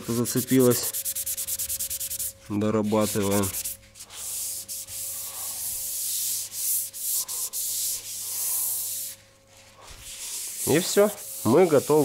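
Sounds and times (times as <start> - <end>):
hand sanding: 0.0 - 12.0.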